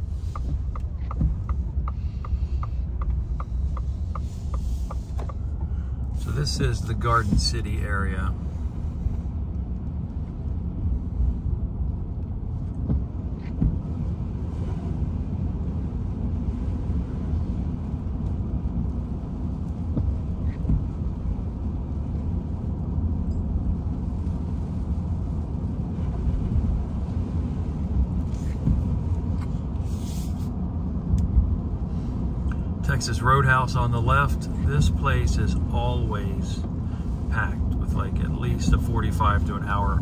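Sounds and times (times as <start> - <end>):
tyre and road noise: 0.0 - 40.0.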